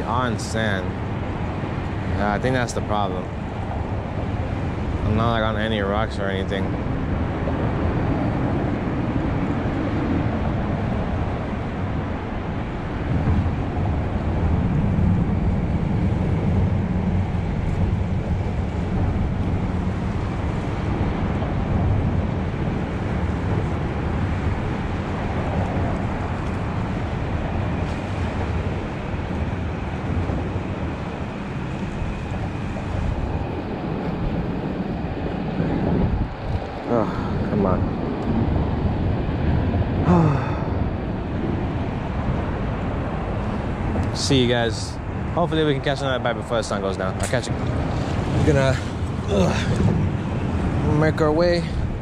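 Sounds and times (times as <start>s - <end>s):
sea water: 0.0s - 44.2s, 47.0s - 52.0s
wind on microphone: 0.0s - 52.0s.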